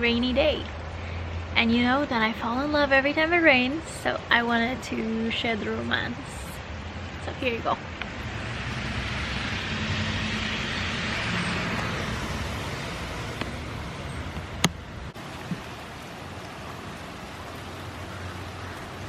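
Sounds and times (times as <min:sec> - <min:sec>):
steady rain: 0:00.0 - 0:19.0
traffic hiss on wet road: 0:00.6 - 0:02.3, 0:03.1 - 0:19.0.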